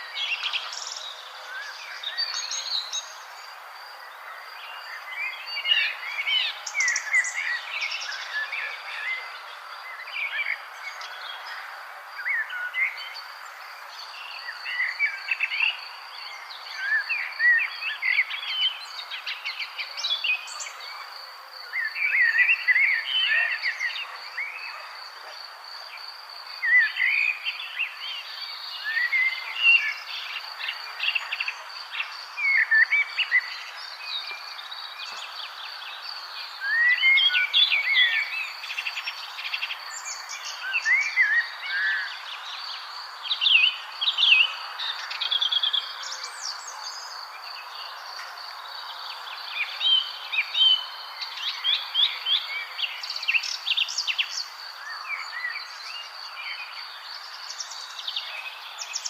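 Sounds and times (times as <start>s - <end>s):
birds chirping song: 0.0s - 59.0s.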